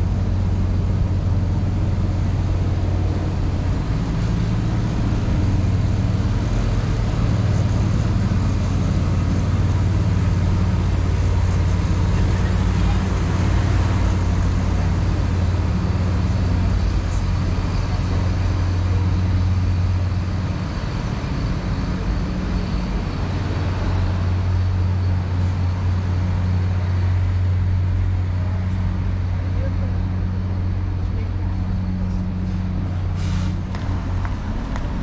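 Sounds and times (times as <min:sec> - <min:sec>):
city street sound: 0:00.0 - 0:35.0
vehicle engine hum: 0:00.0 - 0:35.0.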